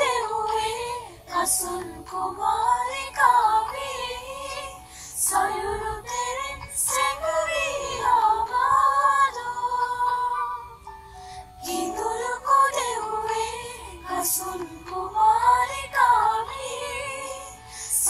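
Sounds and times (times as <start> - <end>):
women singing unaccompanied: 0.0 - 10.6, 11.6 - 18.0.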